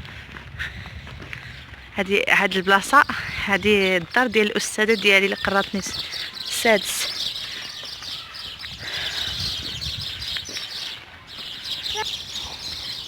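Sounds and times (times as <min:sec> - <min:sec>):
small birds chirping: 0:01.2 - 0:13.0.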